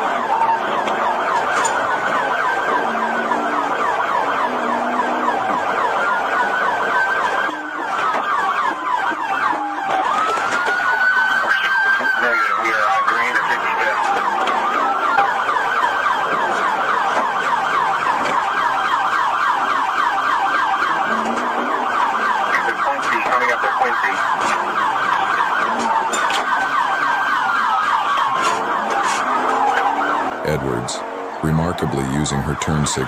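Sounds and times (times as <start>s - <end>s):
police siren yelping: 0.0s - 33.0s.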